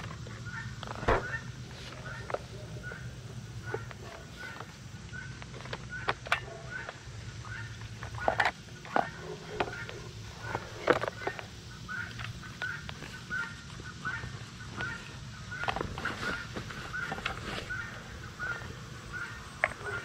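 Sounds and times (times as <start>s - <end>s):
chickens clucking: 0.1s - 20.0s.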